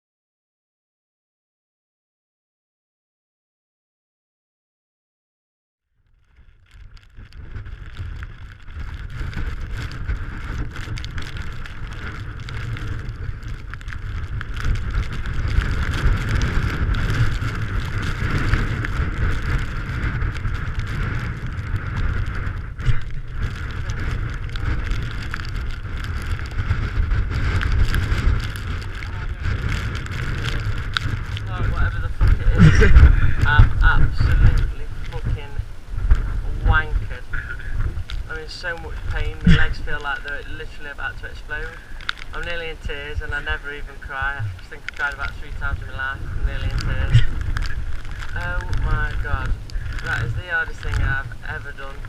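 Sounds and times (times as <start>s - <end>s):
strong wind buffeting microphone: 6.2s - 52.0s.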